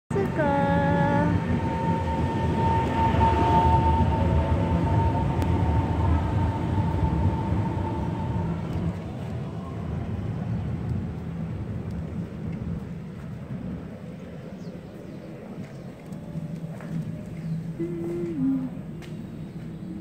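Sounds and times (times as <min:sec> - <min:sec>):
high whine: 0:00.1 - 0:20.0
train rumbling: 0:00.1 - 0:20.0.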